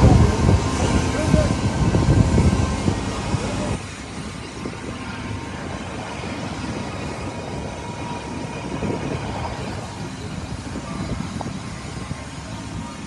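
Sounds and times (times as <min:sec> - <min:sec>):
diesel construction machinery running: 0:00.0 - 0:13.0.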